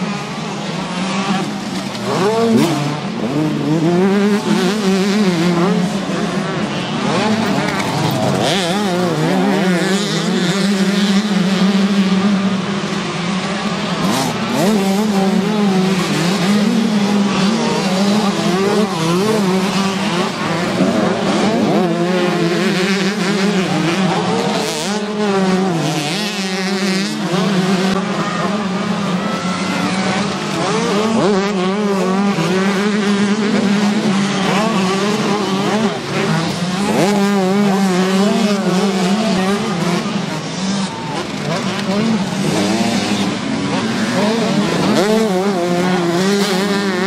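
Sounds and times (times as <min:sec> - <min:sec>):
motocross bikes revving past: 0:00.0 - 0:47.0.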